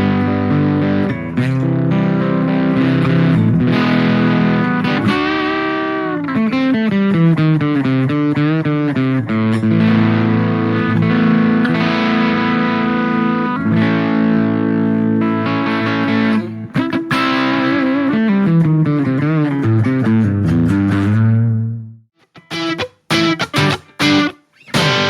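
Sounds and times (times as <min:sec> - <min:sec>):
distorted electric guitar: 0:00.0 - 0:25.0.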